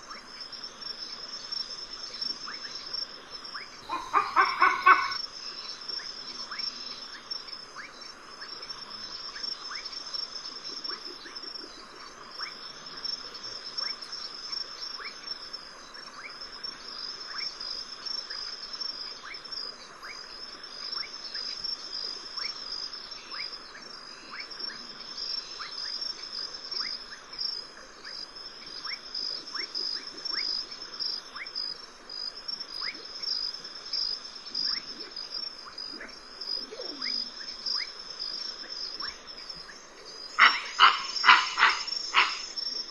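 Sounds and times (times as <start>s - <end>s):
insect chirps: 0.0s - 42.9s
insect trill: 0.0s - 42.9s.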